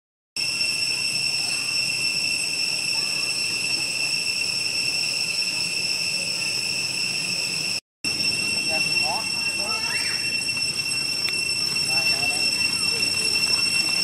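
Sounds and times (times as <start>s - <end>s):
shrill insect drone: 0.4s - 14.0s.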